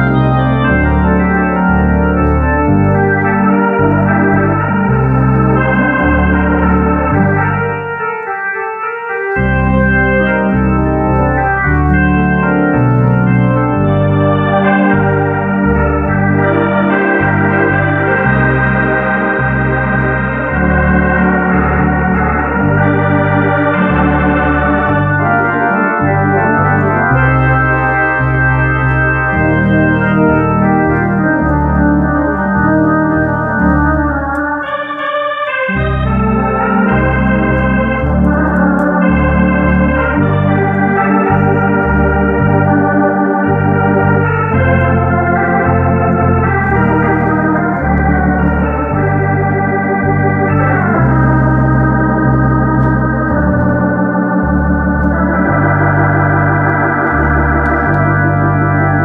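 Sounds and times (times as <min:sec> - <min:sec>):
organ playing slow melody: 0:00.0 - 0:59.0.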